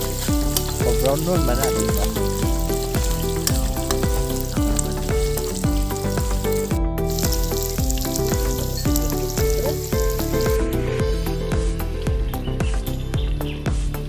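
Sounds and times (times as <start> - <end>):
food sizzling in hot oil: 0.0 - 11.4
background music with beat: 0.0 - 14.0.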